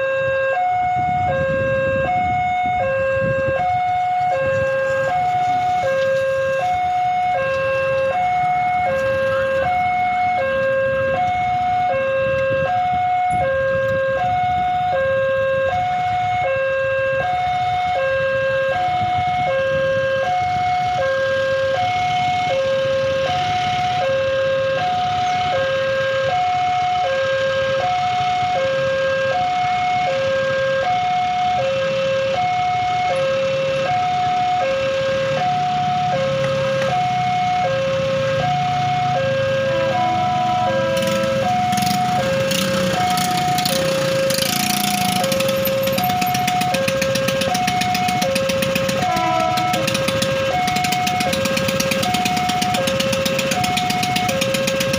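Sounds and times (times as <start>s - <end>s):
railroad crossing two-tone alarm: 0.0s - 54.9s
motorcycle engines idling: 0.8s - 54.9s.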